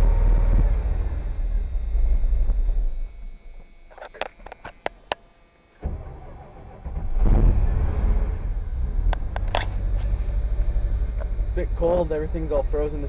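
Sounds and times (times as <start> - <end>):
engine revving and idling: 0.0 - 3.3, 5.8 - 13.0.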